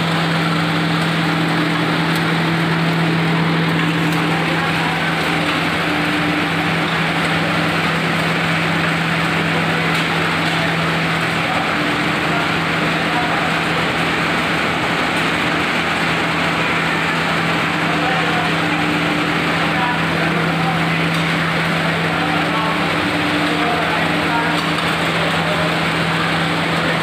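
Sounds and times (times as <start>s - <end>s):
grinding mill running: 0.0s - 27.0s.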